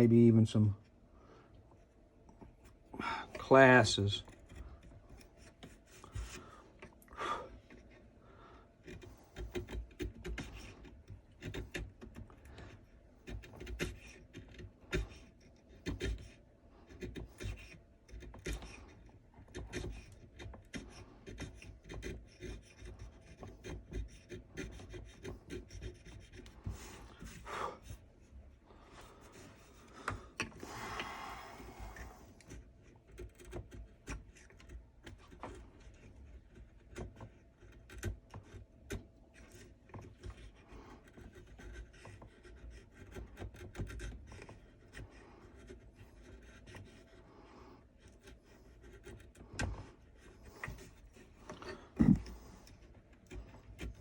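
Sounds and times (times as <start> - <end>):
chisel scraping wood: 1.7 - 54.0.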